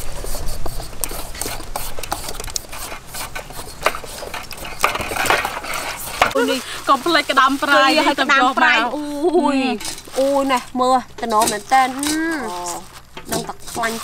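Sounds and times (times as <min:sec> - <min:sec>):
metal peelers scraping papaya: 0:00.0 - 0:14.0.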